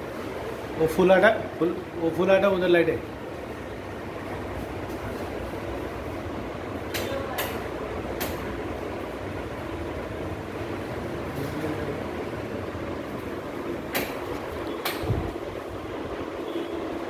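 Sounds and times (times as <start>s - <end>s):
ceiling fans humming: 0.0s - 17.0s.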